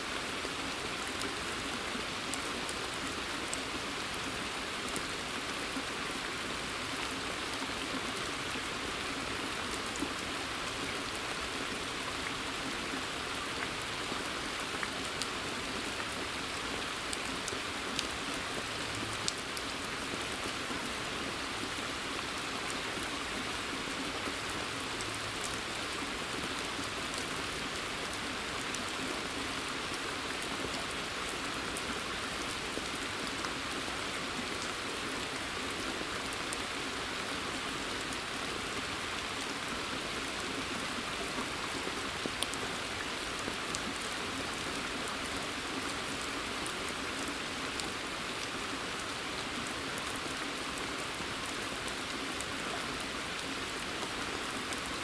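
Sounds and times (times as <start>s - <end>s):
rain on water surface: 0.0s - 55.0s.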